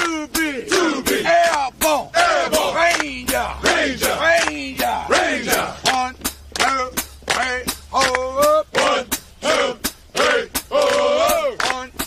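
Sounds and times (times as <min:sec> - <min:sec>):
steady percussion beat: 0:00.0 - 0:12.0
voices singing military cadence: 0:00.0 - 0:12.0.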